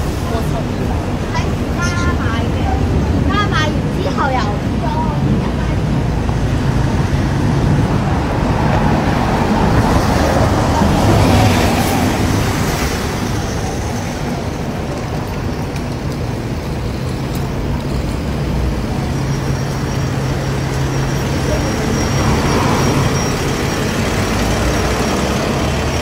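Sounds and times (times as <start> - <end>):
street traffic rumble: 0.0 - 26.0.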